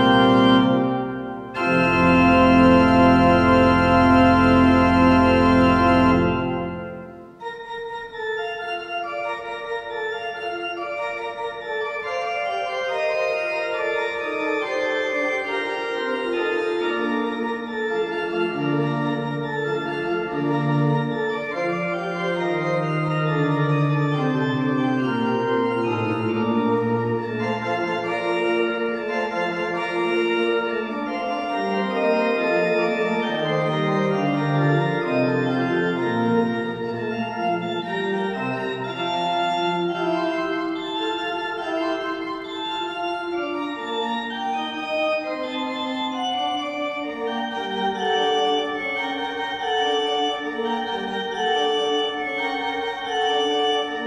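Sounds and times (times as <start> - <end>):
pipe organ playing: 0.0 - 54.0.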